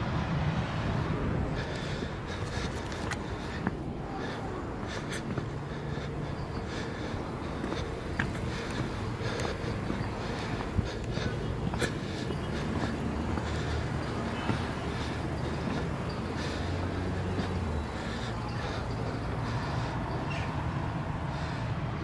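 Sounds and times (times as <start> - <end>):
vehicle engine hum: 0.0 - 22.0.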